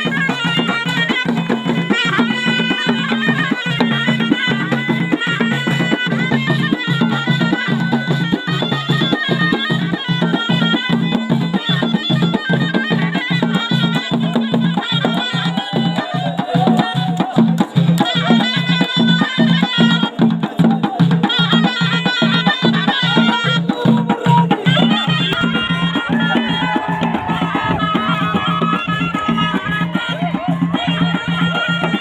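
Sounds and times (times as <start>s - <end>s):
quick drum beat: 0.0s - 32.0s
shawm playing folk melody: 0.0s - 32.0s.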